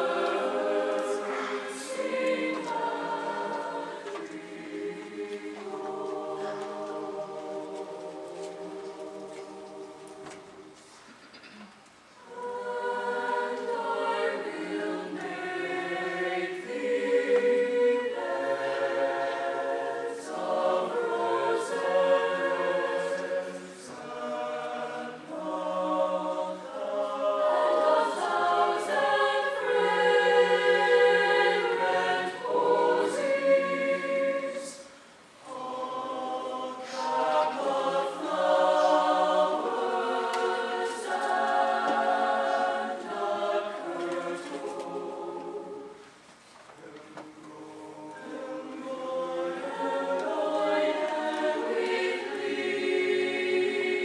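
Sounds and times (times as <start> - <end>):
mixed choir singing in harmony: 0.0 - 11.1, 12.2 - 54.0.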